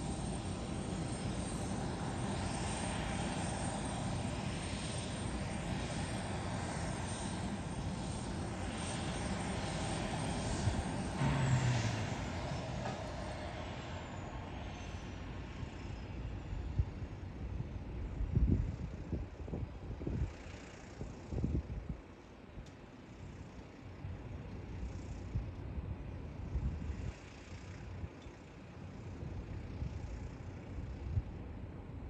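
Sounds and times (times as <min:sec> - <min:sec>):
airliner engine rushing: 0:00.0 - 0:32.0.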